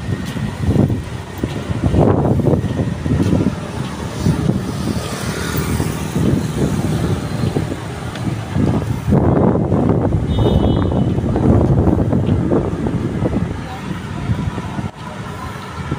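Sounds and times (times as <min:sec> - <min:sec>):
cars and motorbikes passing: 0:00.0 - 0:15.9.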